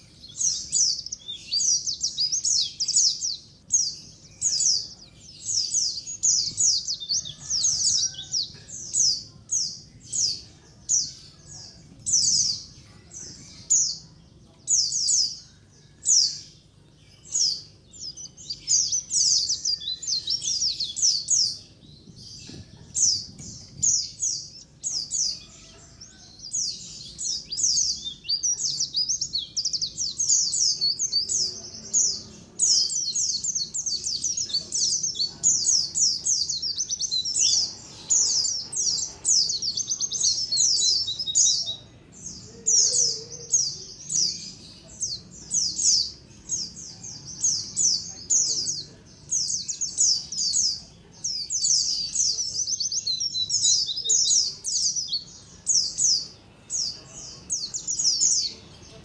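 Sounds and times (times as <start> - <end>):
flock of birds chirping: 0.0 - 59.0.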